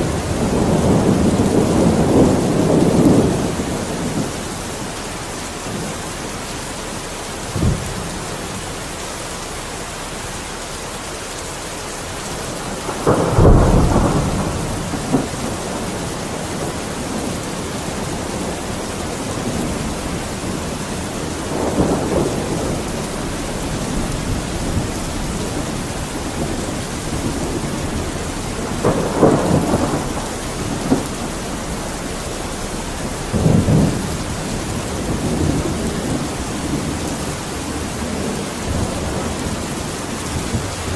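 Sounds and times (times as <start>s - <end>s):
thunder rumbling: 0.0s - 10.7s, 12.0s - 40.9s
steady rain falling: 0.0s - 40.9s.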